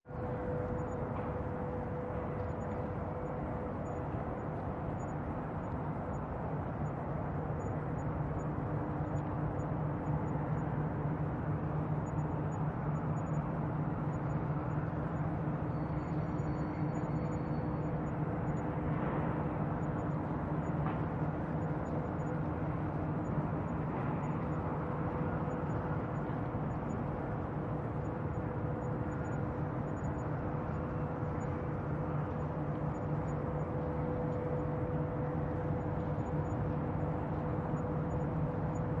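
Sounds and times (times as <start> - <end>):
low mechanical drone: 0.1 - 39.0
steady hum tones: 0.1 - 39.0.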